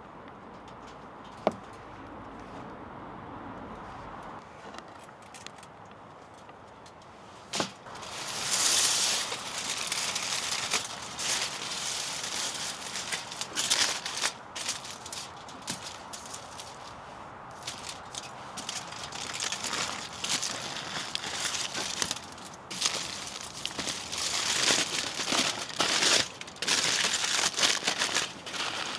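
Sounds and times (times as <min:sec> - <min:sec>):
crackling and rustling: 0:04.3 - 0:28.9.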